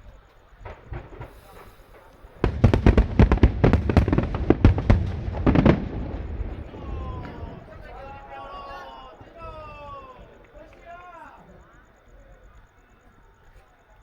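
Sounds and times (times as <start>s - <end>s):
fireworks bangs: 0.0s - 12.6s.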